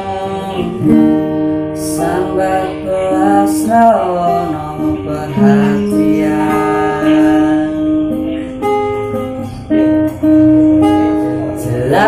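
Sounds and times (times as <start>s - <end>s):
classical guitar strummed: 0.0s - 12.0s.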